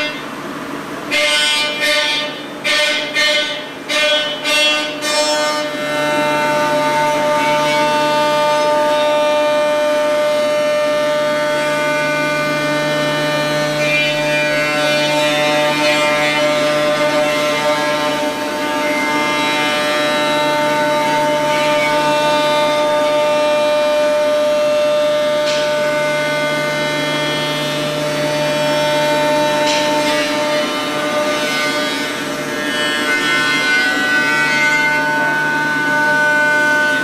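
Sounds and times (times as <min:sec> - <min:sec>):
milling machine cutting metal: 0:00.0 - 0:37.0.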